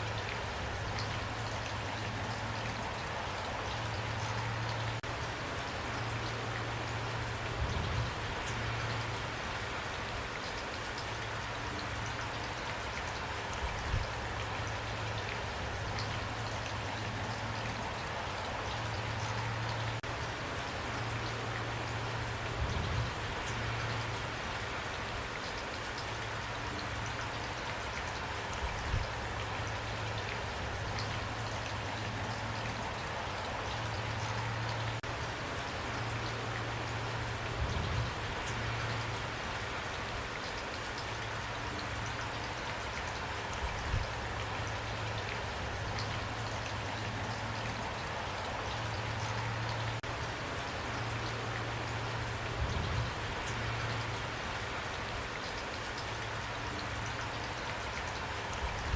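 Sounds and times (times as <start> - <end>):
steady rain patter: 0.0 - 58.9.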